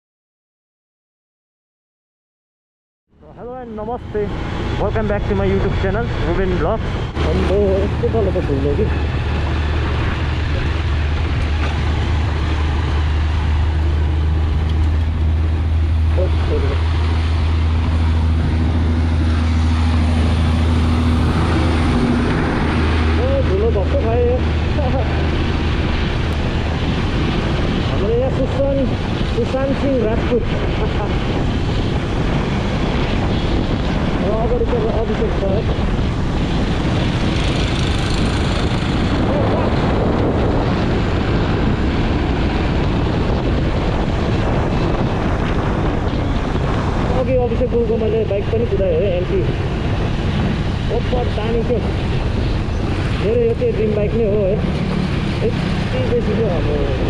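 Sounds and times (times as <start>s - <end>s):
motorcycle engine droning: 3.2s - 57.0s
wind buffeting microphone: 3.2s - 57.0s.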